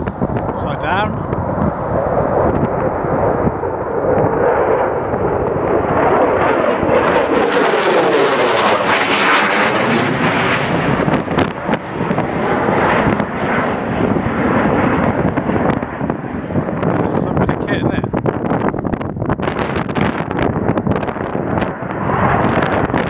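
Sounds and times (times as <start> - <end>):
jet flying past: 0.0 - 23.0.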